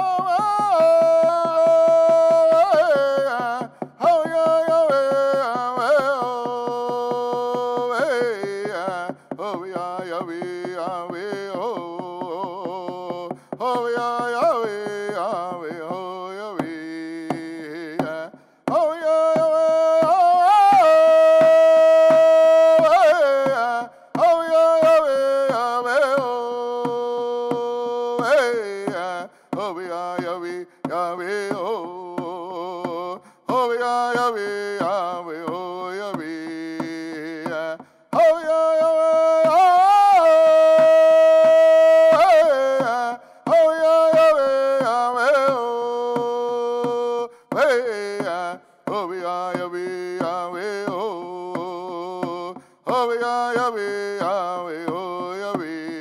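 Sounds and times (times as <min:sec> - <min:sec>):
hand drum struck with a stick: 0:00.0 - 0:56.0
man singing long held notes: 0:00.0 - 0:56.0.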